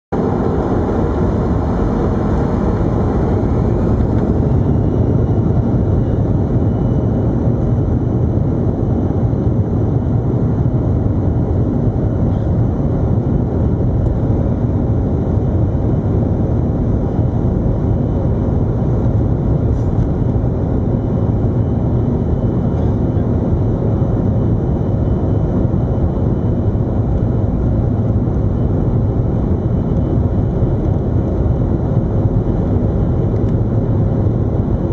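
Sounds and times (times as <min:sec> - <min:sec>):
jet engines on takeoff: 0:00.2 - 0:34.9.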